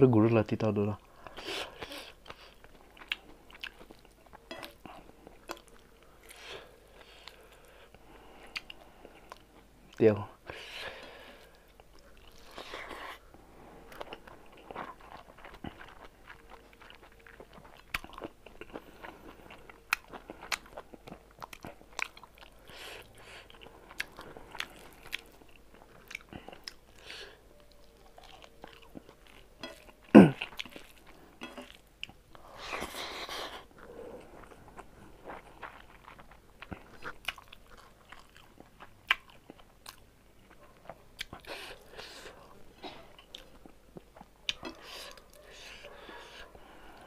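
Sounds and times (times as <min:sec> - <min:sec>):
person chewing and crunching: 0:00.9 - 0:47.0.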